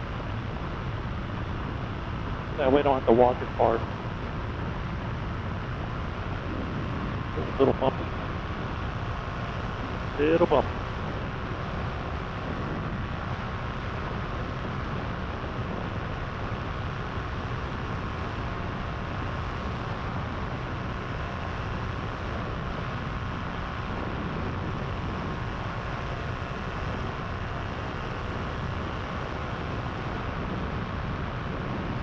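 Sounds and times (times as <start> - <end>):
paraglider engine drone: 0.0 - 32.0.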